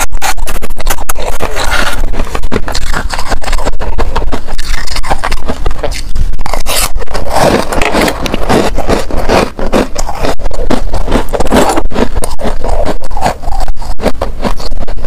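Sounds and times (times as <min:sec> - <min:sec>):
ice being crunched and chewed: 0:00.0 - 0:15.0.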